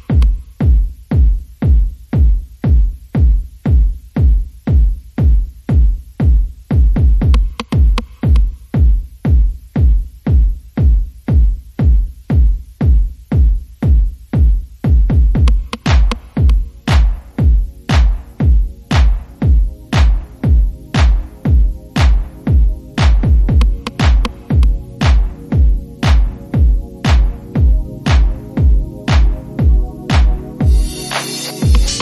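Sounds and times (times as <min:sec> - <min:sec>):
electronic music with kick drum: 0:00.0 - 0:32.0.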